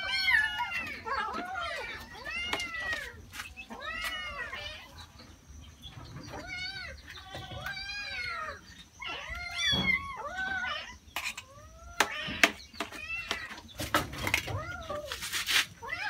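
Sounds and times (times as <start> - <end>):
cats meowing: 0.0 - 16.0.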